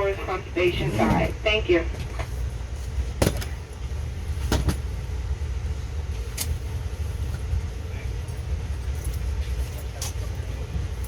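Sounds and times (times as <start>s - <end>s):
train rumble inside coach: 0.0s - 11.0s.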